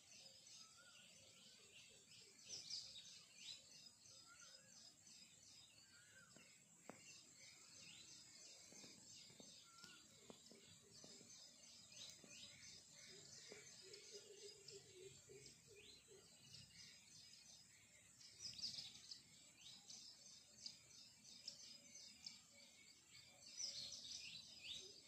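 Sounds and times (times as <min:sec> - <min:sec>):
birds chirping: 0:00.0 - 0:25.0
lower whistled bird notes: 0:00.0 - 0:25.0.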